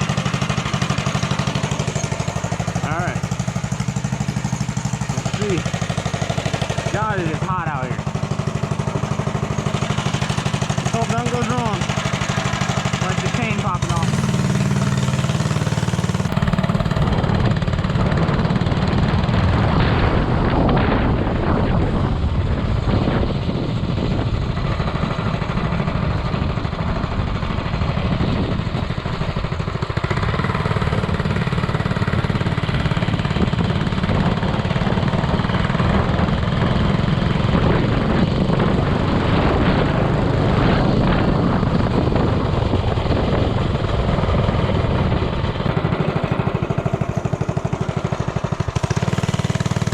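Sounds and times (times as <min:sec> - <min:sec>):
minibike engine running: 0:00.0 - 0:49.9.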